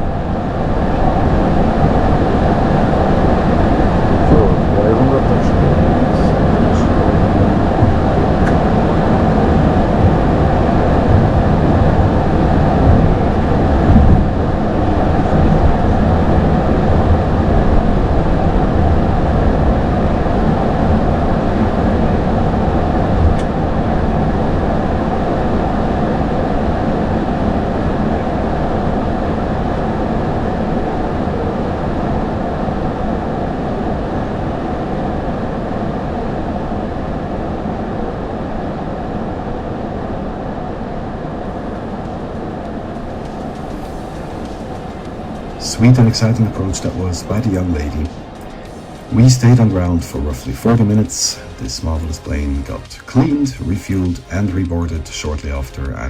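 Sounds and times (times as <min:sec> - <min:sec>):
aircraft rolling rumble: 0:00.0 - 0:32.6, 0:40.7 - 0:55.8.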